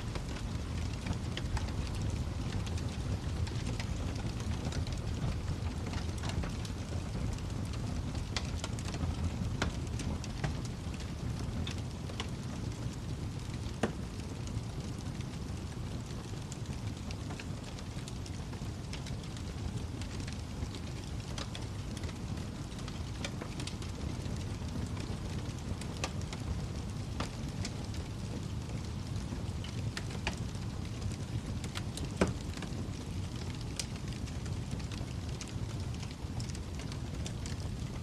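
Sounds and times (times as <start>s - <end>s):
fire popping: 0.0s - 38.0s
wood fire crackling: 0.0s - 38.0s.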